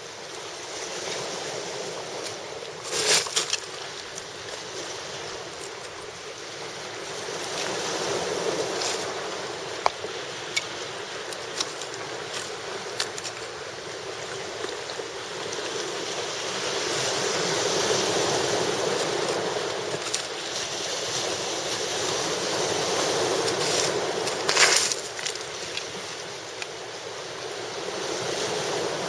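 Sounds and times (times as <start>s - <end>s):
sea waves washing in: 0.0s - 29.0s.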